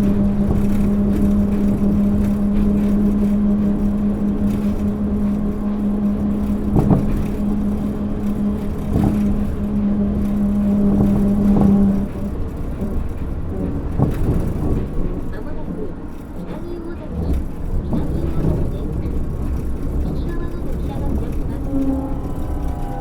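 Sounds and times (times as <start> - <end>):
train interior rumble: 0.0 - 23.0.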